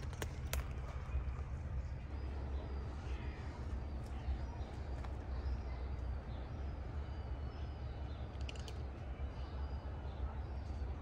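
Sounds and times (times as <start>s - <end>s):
faint bird chirps: 0.8s - 11.0s.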